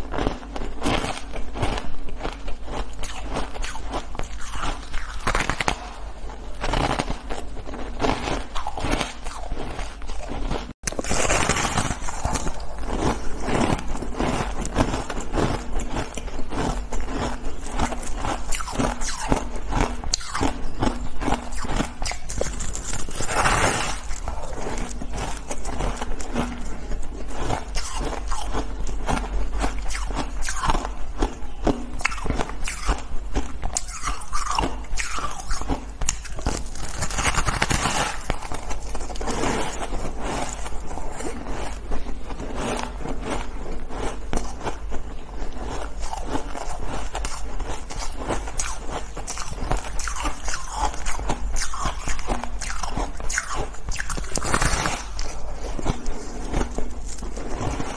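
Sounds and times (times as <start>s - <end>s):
ice crunching being chewed: 0.0s - 57.9s.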